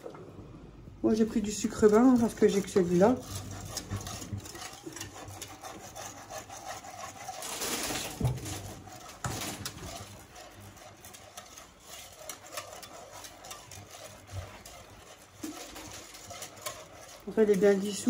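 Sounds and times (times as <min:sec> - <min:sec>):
milk swishing: 0:00.9 - 0:18.0
whisk scraping metal saucepan: 0:01.0 - 0:18.0.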